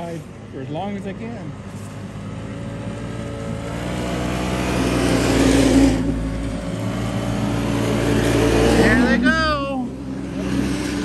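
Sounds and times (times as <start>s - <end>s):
snowmobile engines passing: 0.7s - 11.0s.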